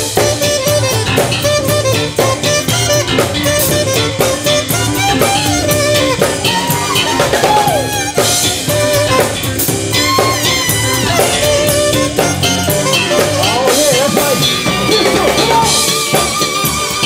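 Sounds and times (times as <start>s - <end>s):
drum-kit groove: 0.0s - 17.0s
saxophone solo: 0.0s - 17.0s.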